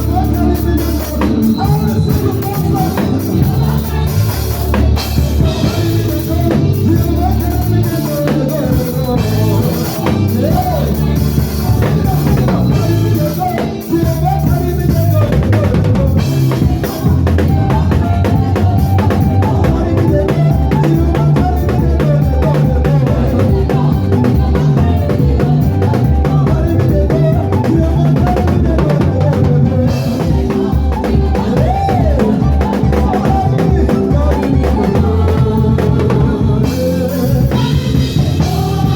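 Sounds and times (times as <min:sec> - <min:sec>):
drum kit with rimshots: 0:00.0 - 0:38.9
gospel band playing: 0:00.0 - 0:38.9
heavy bass line: 0:00.0 - 0:38.9.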